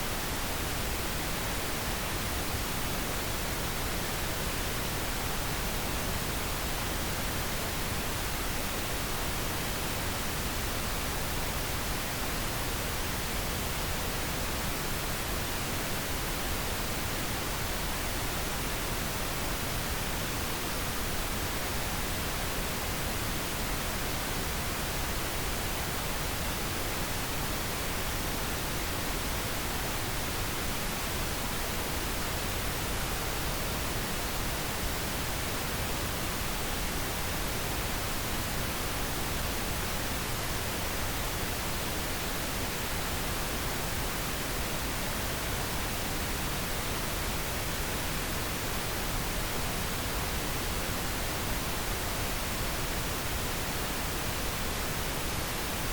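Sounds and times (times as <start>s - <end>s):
pink noise hiss: 0.0s - 55.9s.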